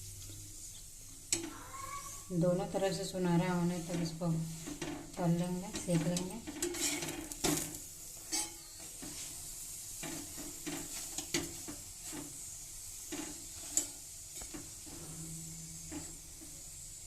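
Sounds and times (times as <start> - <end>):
flatbread sizzling in oil: 0.0 - 17.0
spatula scraping a pan: 1.3 - 16.7.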